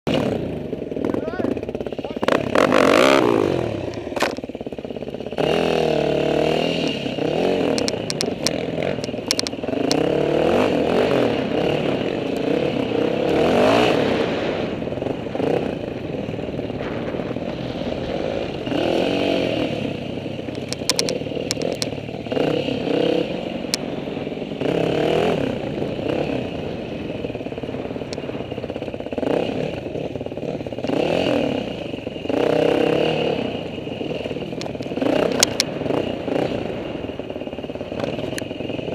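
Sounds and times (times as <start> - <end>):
dirt bike engine revving: 0.1 - 38.9.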